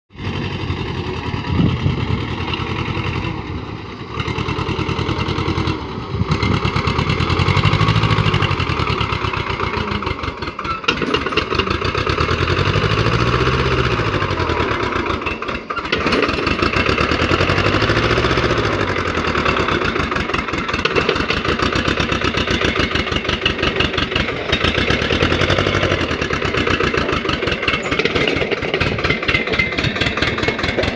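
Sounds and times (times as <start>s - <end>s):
tractor diesel engine revving: 0.1s - 30.9s.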